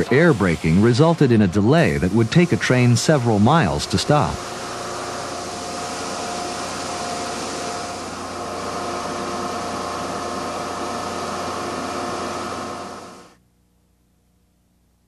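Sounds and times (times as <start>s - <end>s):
machine hiss: 0.0s - 13.3s.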